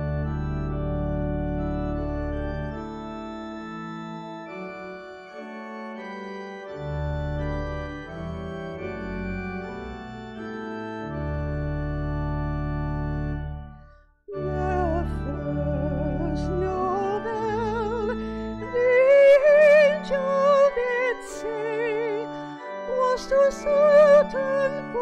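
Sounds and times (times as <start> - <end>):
church organ playing chords: 0.0 - 25.0.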